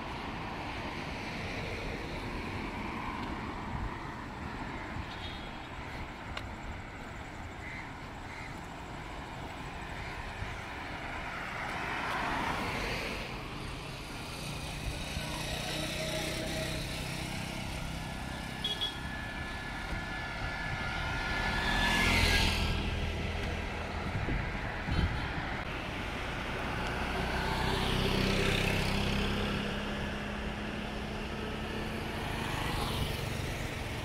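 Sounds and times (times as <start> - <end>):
cars passing: 0.0 - 34.0
motorcycles passing: 0.0 - 34.0.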